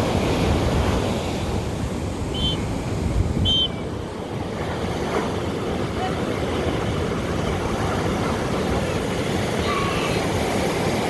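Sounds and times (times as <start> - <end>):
surf washing onto beach: 0.0 - 11.0
wind rumbling on microphone: 0.0 - 11.0.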